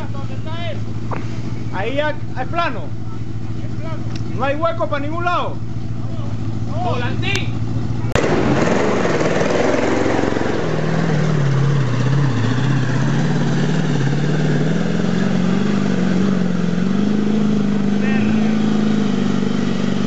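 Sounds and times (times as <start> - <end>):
engine working under load: 0.0 - 20.0.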